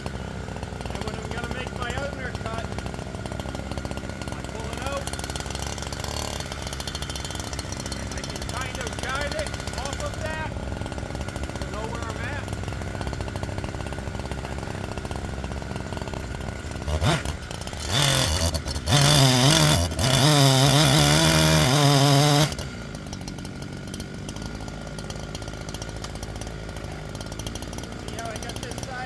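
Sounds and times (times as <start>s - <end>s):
chainsaw idling and revving: 0.0s - 29.0s.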